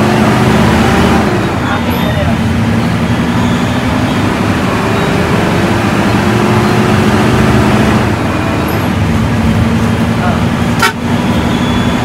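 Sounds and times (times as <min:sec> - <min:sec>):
bus engine running: 0:00.0 - 0:12.0
road noise rush: 0:00.0 - 0:12.0.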